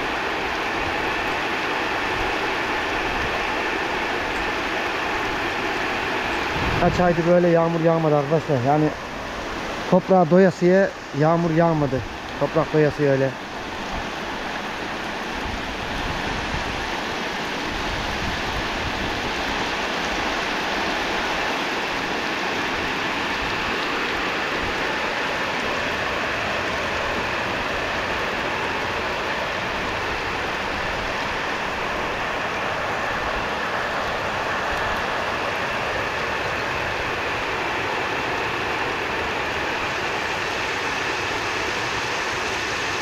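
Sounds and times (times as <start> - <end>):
heavy rain pouring: 0.0 - 43.0.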